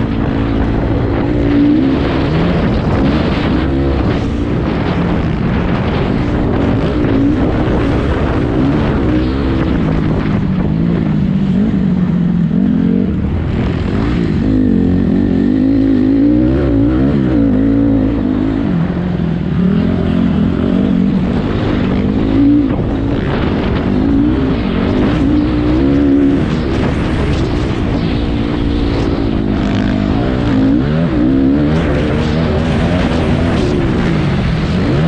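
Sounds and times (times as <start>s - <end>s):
racing engine revving: 0.0s - 35.0s.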